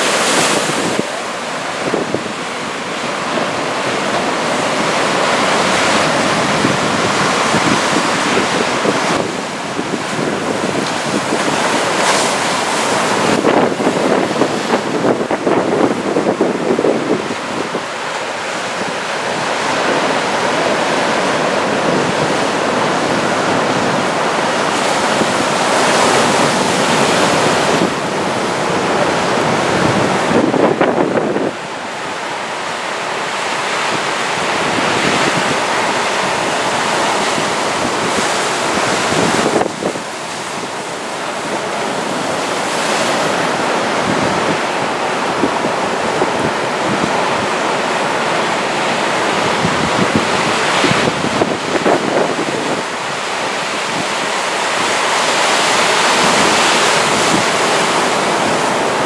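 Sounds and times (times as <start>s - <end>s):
heavy waves breaking on shore: 0.0s - 59.0s
wind buffeting microphone: 0.0s - 59.0s.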